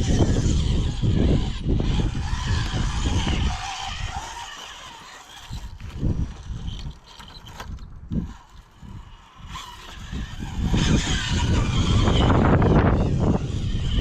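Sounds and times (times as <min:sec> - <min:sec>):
off-road vehicle engine: 0:00.0 - 0:14.0
wind buffeting microphone: 0:00.0 - 0:14.0
mechanical clatter: 0:00.1 - 0:14.0.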